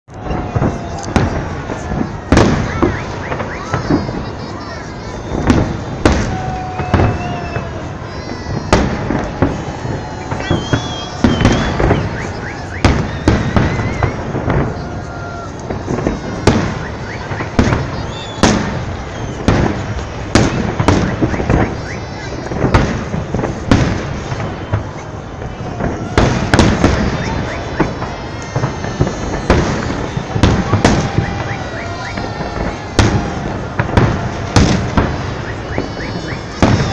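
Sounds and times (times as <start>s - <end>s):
crowd hubbub: 0.0s - 36.9s
fireworks bangs: 0.1s - 36.9s
high firework whistles: 0.1s - 36.9s.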